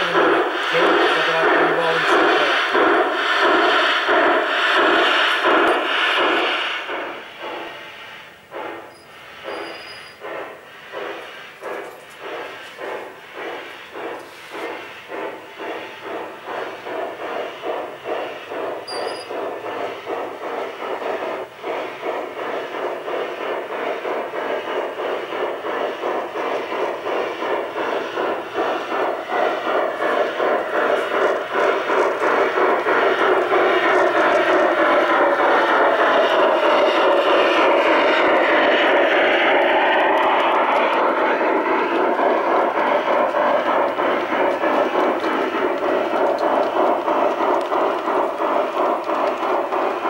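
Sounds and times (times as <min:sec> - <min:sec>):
model steam locomotive chuffing: 0:00.0 - 0:50.0.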